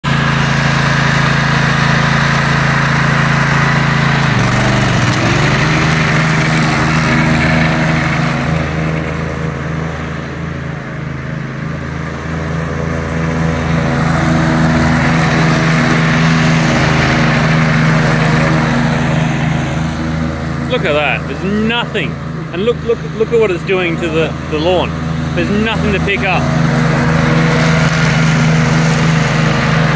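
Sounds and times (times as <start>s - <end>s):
ride-on lawn mower engine: 0.0s - 29.9s.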